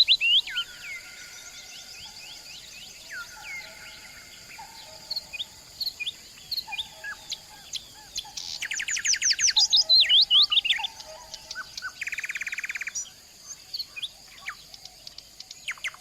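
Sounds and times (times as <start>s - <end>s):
songbirds chirping and singing: 0.0s - 16.0s.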